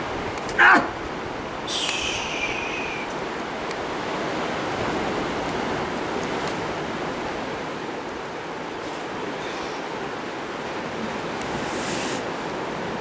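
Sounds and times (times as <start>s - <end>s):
waves on rocky shore: 0.0s - 13.0s.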